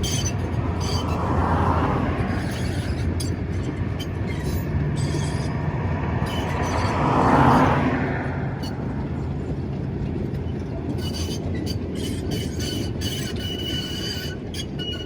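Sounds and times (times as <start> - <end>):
train clanks: 0.0 - 15.0
train rumbling and rattling on track: 0.0 - 15.0.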